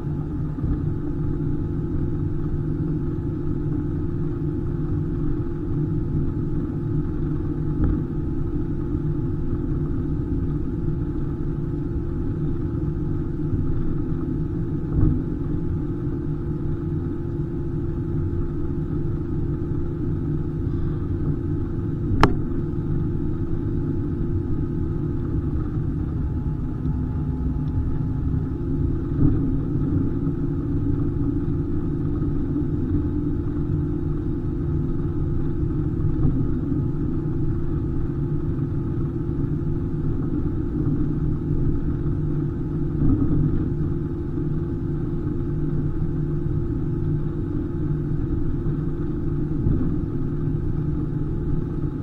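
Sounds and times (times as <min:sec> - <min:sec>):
aircraft cabin engine rumble: 0:00.0 - 0:52.0
faint steady hum: 0:00.0 - 0:52.0.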